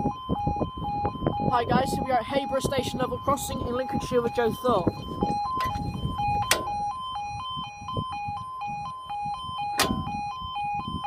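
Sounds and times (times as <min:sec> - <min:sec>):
two-tone electronic warning alarm: 0:00.0 - 0:11.0.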